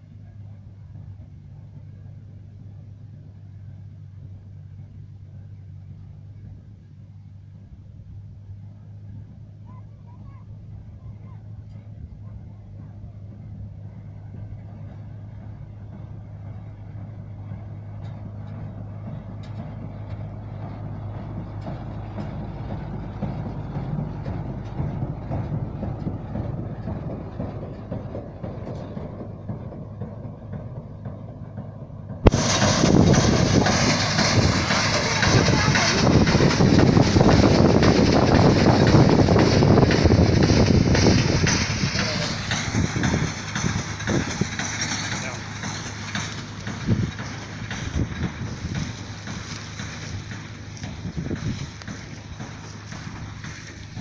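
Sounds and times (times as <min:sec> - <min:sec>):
tractor engine droning: 0:00.0 - 0:54.0
baler mechanical clattering: 0:10.7 - 0:54.0.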